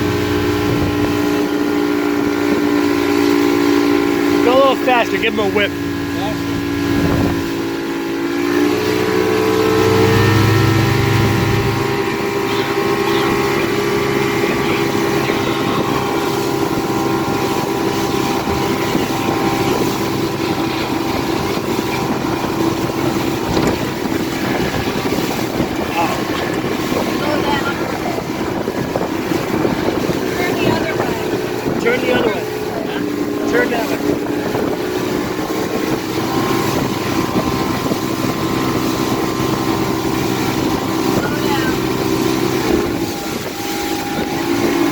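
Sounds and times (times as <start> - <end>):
wind noise on microphone: 0.0 - 4.4, 5.1 - 44.9
motorboat engine running: 0.0 - 44.9.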